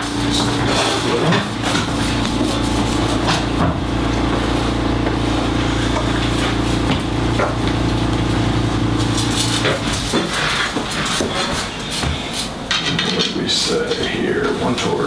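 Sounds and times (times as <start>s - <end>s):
motor humming: 0.0s - 12.7s.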